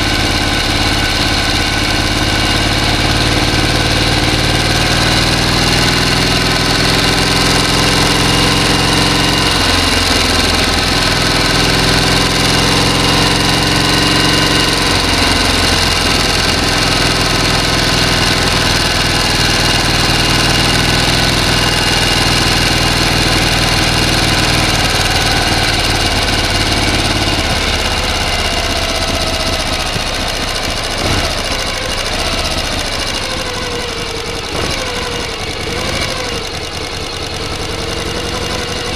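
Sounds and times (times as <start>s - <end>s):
motor running: 4.6s - 38.9s.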